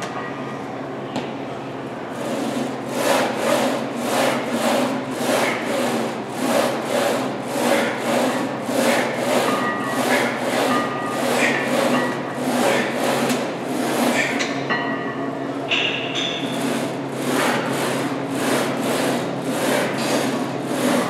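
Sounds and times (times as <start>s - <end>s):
steady low hum: 0.0s - 21.0s
leg press sled sliding on rails: 2.1s - 14.6s, 16.3s - 21.0s.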